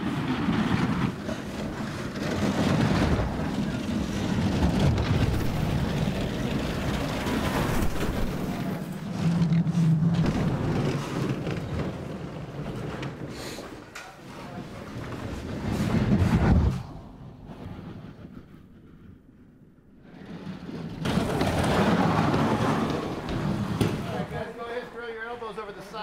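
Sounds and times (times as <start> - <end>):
bobsled runners scraping on ice: 0.0 - 19.1, 20.0 - 26.0.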